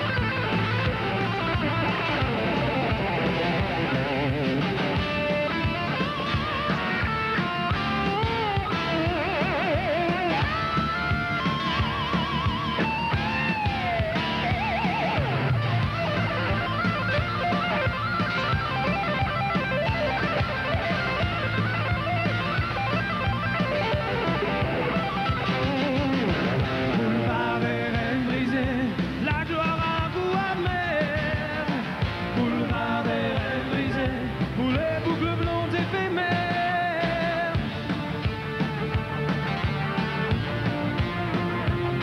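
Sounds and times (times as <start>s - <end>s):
rock band playing live: 0.0s - 42.0s.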